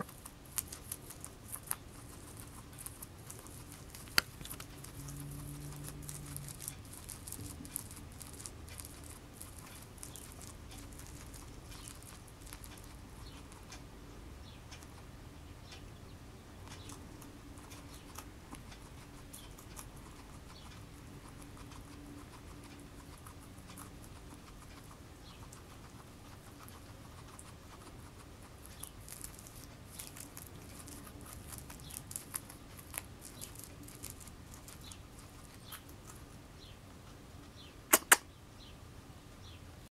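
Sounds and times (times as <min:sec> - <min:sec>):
guinea pig crunching kale: 0:00.0 - 0:15.8, 0:16.5 - 0:38.3.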